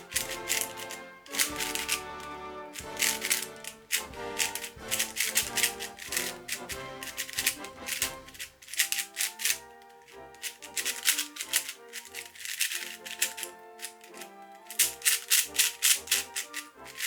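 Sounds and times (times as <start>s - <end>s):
background music: 0.0s - 17.0s
speed cube layers clicking: 0.0s - 17.0s.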